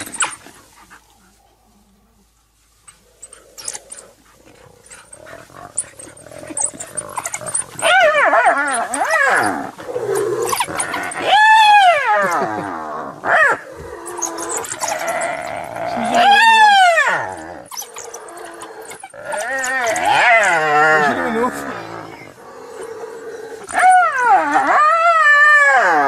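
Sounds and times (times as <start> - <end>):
wild dogs twittering and squealing: 0.0 - 26.0.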